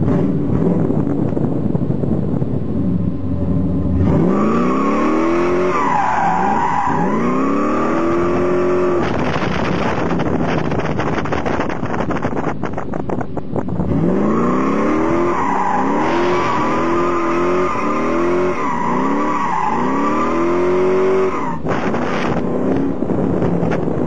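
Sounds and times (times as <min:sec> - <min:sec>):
car engine revving: 0:02.8 - 0:24.0.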